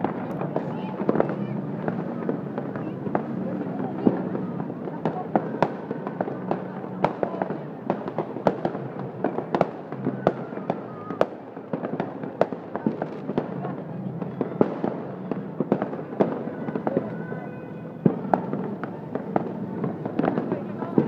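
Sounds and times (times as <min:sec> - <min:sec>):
fireworks bangs and cracks: 0:00.0 - 0:21.0
low rumble of fireworks: 0:00.0 - 0:21.0.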